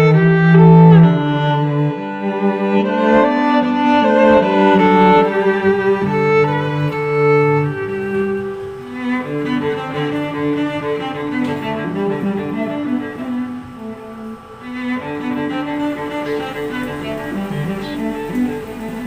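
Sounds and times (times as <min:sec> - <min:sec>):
slow bowed string melody: 0:00.0 - 0:19.0.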